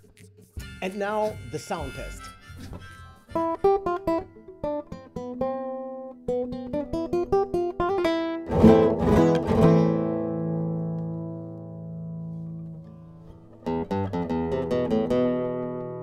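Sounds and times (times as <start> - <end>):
classical guitar notes and chords: 2.4 - 16.0.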